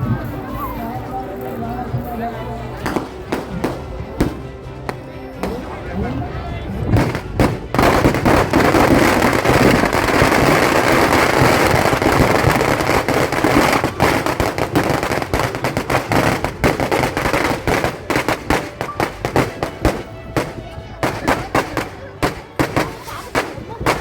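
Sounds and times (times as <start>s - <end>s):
firecrackers crackling and banging: 2.8s - 5.9s, 6.9s - 24.0s.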